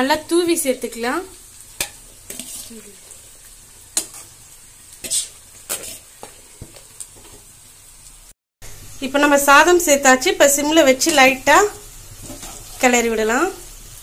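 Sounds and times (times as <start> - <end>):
rice sizzling in a pan: 0.0 - 14.0.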